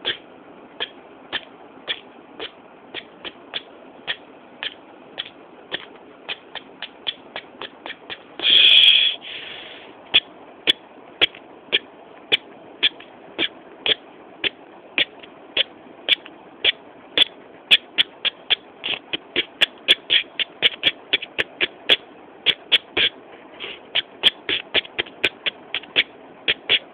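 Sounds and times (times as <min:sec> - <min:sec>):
steady hiss: 0:00.0 - 0:26.9
sharp short ticks: 0:00.8 - 0:09.2, 0:10.1 - 0:26.9.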